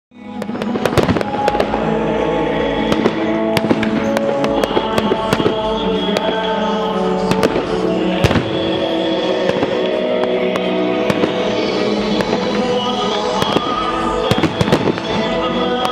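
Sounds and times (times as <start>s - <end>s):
loud music: 0.1s - 15.9s
fireworks bangs and crackles: 0.2s - 15.9s.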